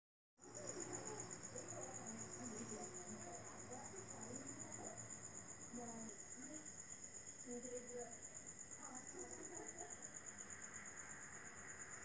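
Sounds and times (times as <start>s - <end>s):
crickets trilling: 0.4s - 12.0s.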